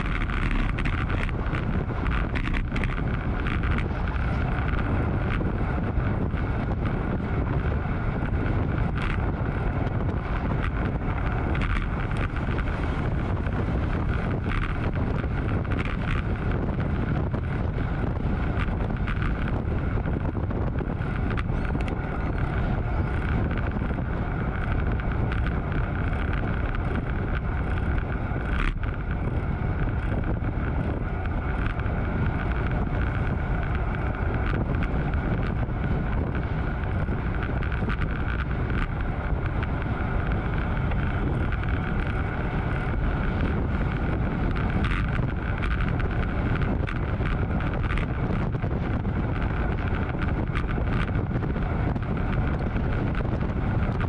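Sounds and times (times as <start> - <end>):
bicycle running noise on road: 0.0 - 54.0
wind buffeting microphone: 0.0 - 54.0.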